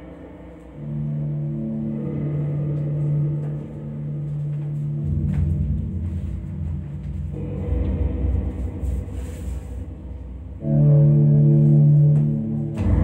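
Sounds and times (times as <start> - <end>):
deep rumbling bass: 0.0 - 13.0.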